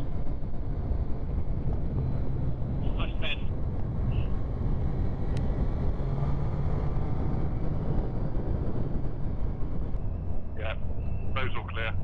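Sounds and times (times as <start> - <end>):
wind noise on helmet: 0.0 - 11.4.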